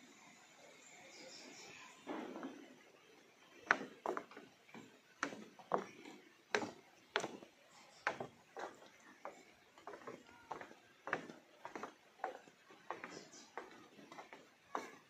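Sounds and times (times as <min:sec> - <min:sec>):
footsteps on wooden boardwalk: 0:02.0 - 0:15.0.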